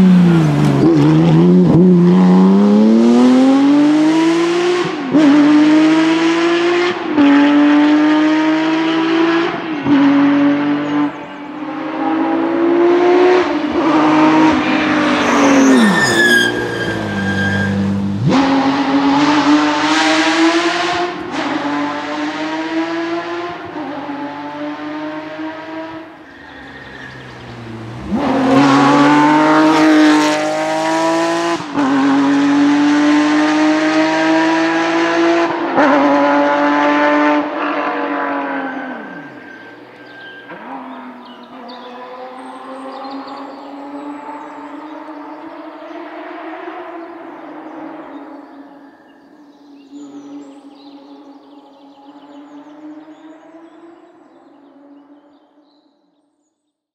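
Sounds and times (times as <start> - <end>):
rally car engines at full throttle: 0.0 - 55.9.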